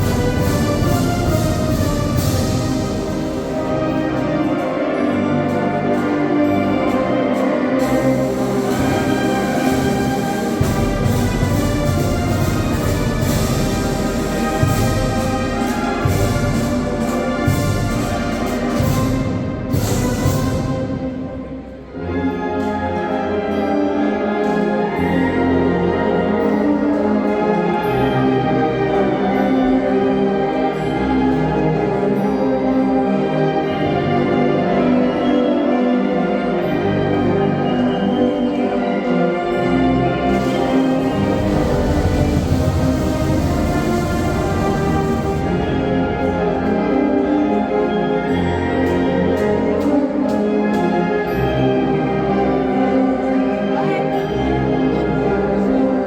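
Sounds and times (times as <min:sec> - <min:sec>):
percussion strikes: 0:00.0 - 0:56.0
wind band playing: 0:00.0 - 0:56.0.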